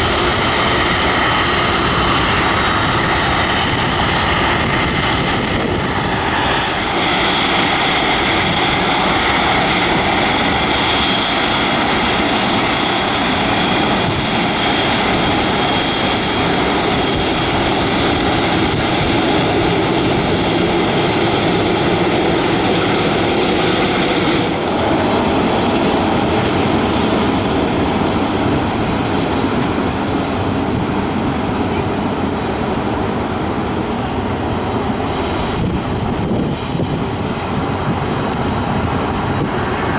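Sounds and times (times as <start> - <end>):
high engine whine: 0.0 - 39.9
jet engines roaring: 0.0 - 39.9.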